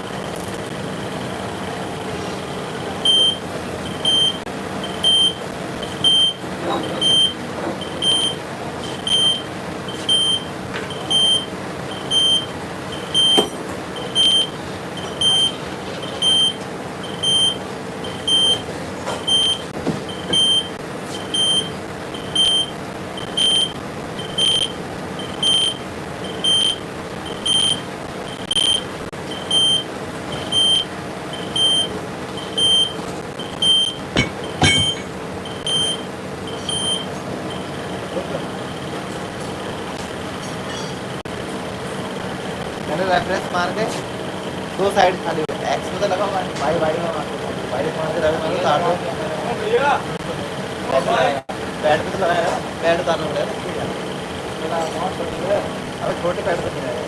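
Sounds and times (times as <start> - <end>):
workshop machinery humming: 0.0 - 57.0.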